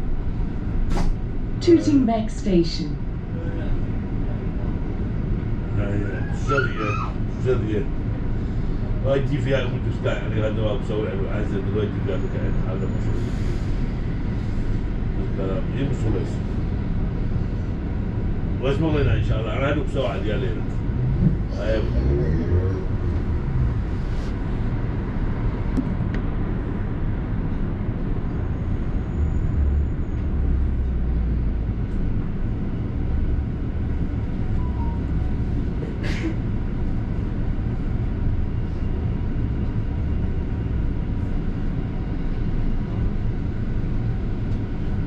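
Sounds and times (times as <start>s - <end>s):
bus engine and road rumble: 0.0s - 45.0s.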